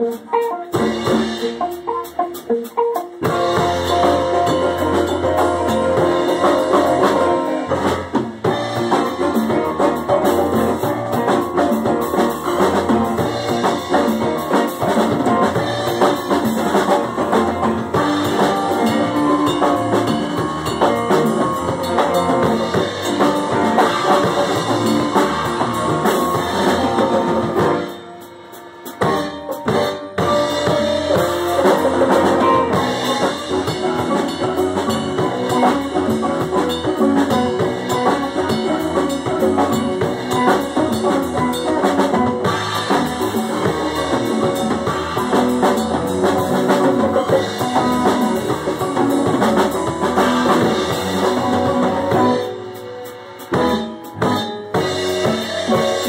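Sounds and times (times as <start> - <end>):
drum kit: 0.0 - 56.0
electric guitar: 0.0 - 56.0
electric bass: 0.7 - 56.0.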